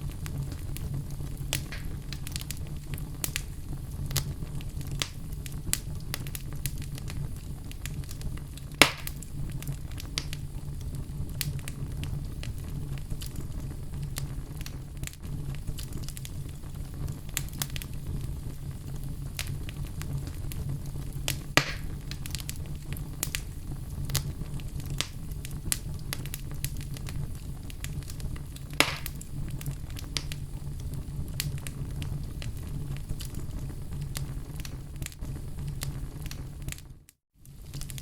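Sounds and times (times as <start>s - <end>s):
burning logs crackling: 0.0s - 38.0s
flames rumbling: 0.0s - 38.0s
loud pops of fire: 0.0s - 38.0s.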